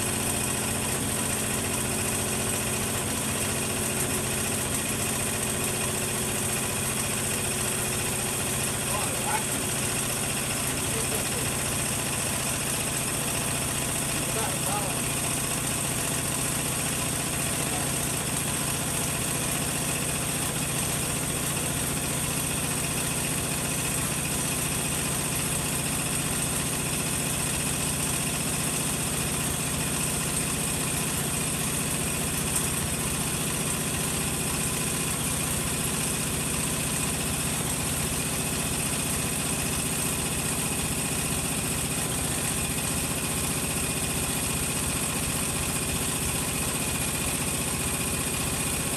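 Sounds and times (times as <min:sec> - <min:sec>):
washing machine spinning: 0:00.0 - 0:48.9.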